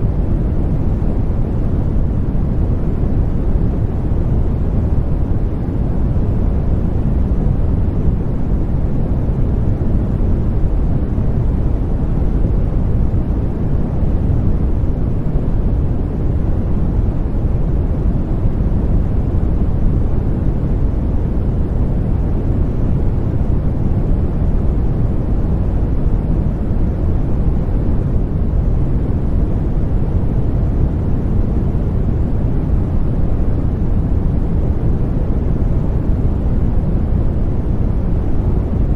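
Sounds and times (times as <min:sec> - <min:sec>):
deep white noise hiss: 0:00.0 - 0:38.9.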